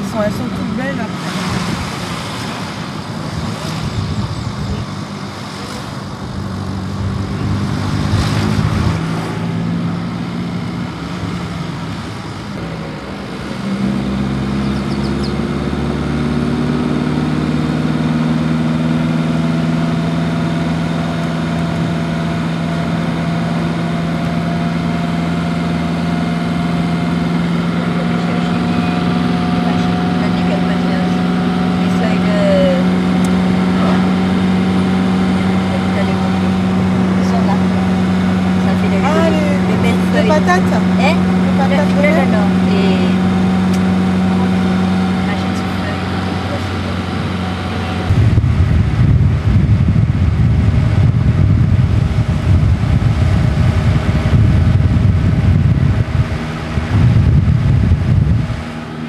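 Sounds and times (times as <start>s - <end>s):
car engine: 0.0s - 59.0s
road noise: 0.0s - 59.0s.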